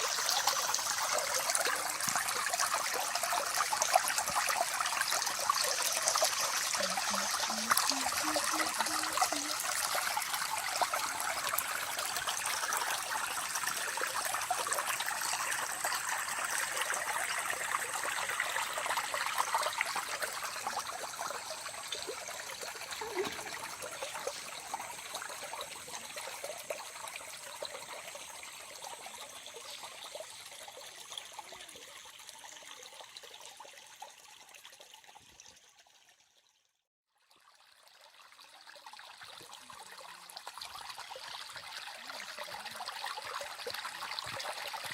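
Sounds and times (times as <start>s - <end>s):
stream trickling: 0.0s - 44.9s.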